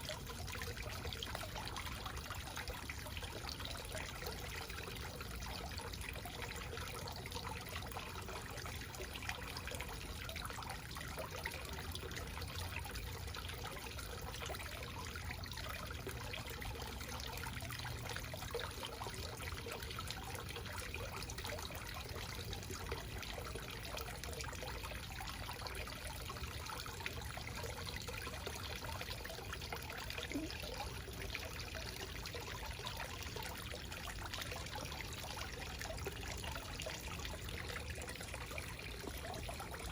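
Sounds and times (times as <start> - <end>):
water splashing into a pool: 0.0 - 39.9.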